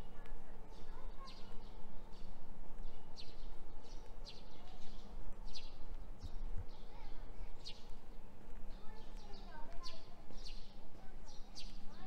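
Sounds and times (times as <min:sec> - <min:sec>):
street ambience hum: 0:00.0 - 0:12.0.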